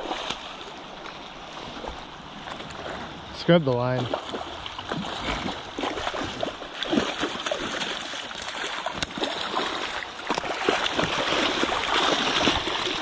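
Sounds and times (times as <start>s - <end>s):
rushing river: 0.0s - 13.0s
small water splashes: 0.0s - 13.0s.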